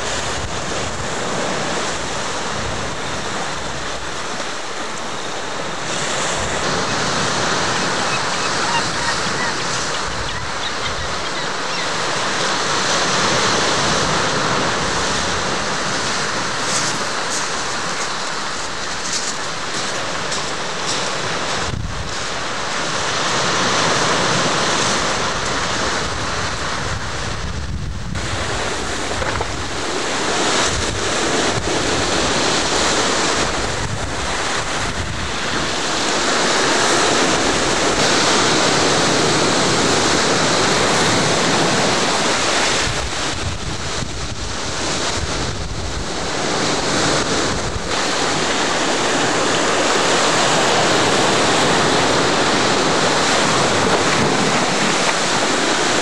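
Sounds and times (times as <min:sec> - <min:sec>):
sea waves washing among ice: 0:00.0 - 0:56.0
wind buffeting microphone: 0:00.0 - 0:56.0.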